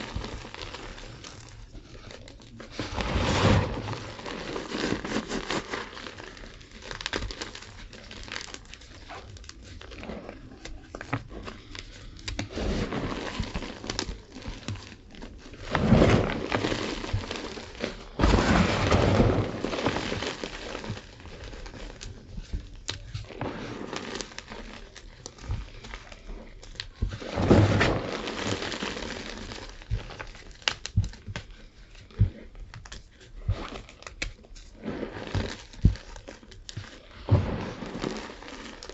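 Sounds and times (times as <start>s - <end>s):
chalk being crunched and crumbled: 0.0s - 38.9s.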